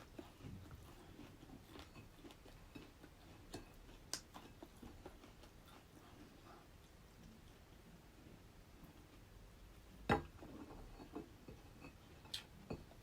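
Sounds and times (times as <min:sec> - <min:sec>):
quiet chewing: 0:00.0 - 0:09.3, 0:10.9 - 0:13.0.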